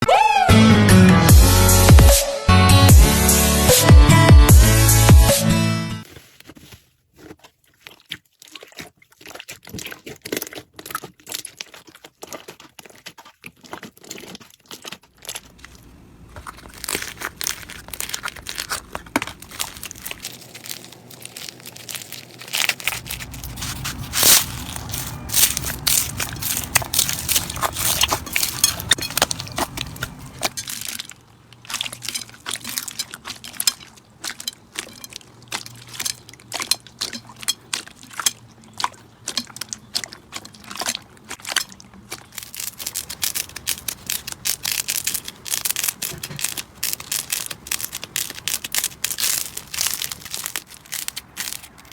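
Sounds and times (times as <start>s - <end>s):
slime crackling and popping: 7.4s - 51.9s.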